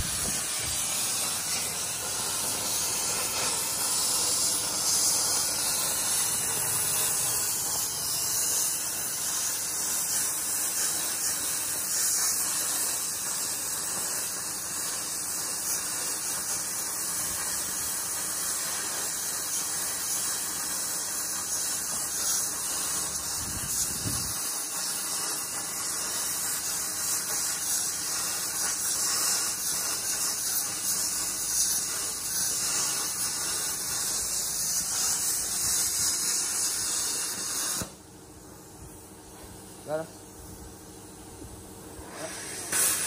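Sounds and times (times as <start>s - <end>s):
welding torch flame hissing: 0.0s - 43.0s.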